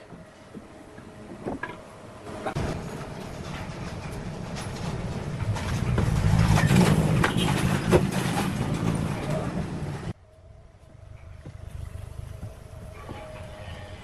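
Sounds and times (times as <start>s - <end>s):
machine rumbling: 0.3s - 14.0s.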